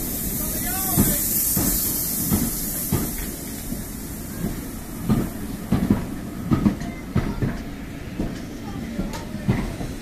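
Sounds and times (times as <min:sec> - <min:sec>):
low train rumble: 0:00.0 - 0:10.0
steam hissing: 0:00.0 - 0:10.0
train wheels clanking over rail joints: 0:00.0 - 0:10.0.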